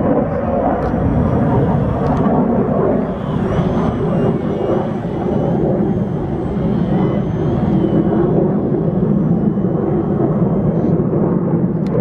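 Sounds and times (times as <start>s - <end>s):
steady rushing noise: 0.0s - 12.0s
model plane motor whining: 0.1s - 12.0s.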